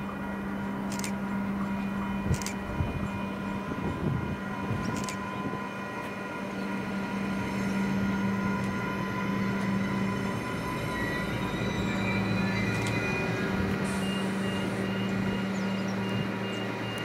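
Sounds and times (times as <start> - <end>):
diesel railcar engine hum: 0.0 - 17.0
engine whine: 0.0 - 17.0.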